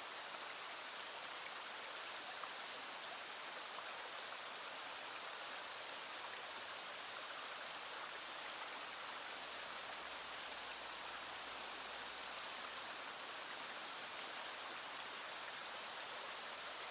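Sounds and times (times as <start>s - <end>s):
falling rain: 0.0s - 16.9s
stream running: 0.0s - 16.9s.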